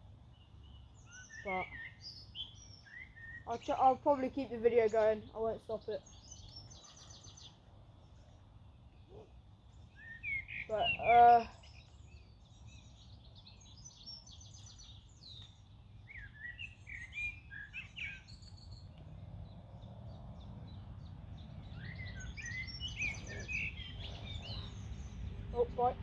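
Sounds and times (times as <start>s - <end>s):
low steady background noise: 0.0s - 17.6s, 18.2s - 26.0s
songbirds chirping: 0.0s - 26.0s.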